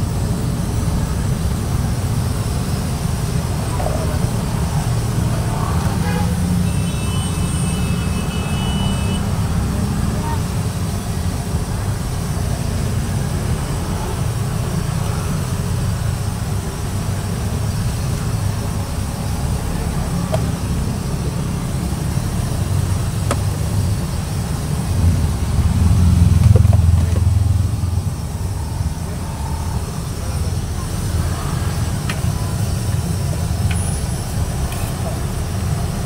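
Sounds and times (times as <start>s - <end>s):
gas burner rumble: 0.0s - 36.0s.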